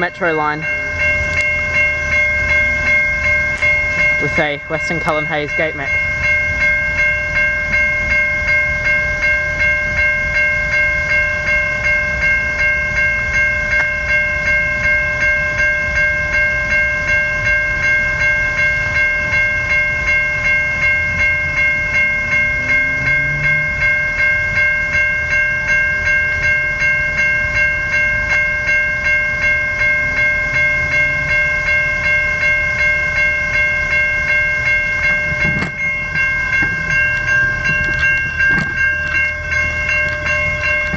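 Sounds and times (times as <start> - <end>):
level crossing bells ringing: 0.0 - 40.9.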